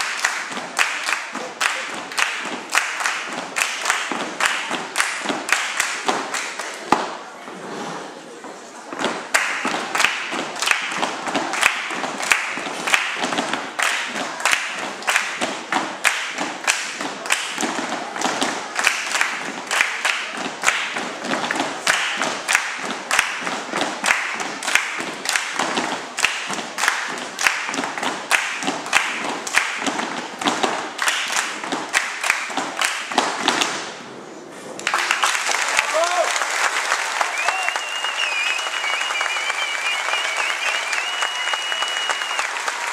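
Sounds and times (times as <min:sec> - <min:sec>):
children doing body percussion: 0:00.0 - 0:07.4, 0:08.4 - 0:36.3.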